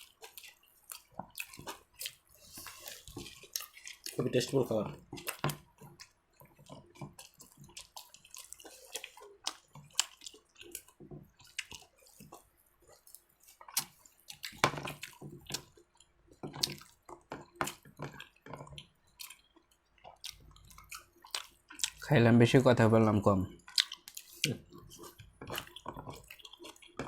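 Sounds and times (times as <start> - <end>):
wet chewing and lip smacks: 0.0 - 4.4, 5.0 - 22.1, 23.5 - 27.0.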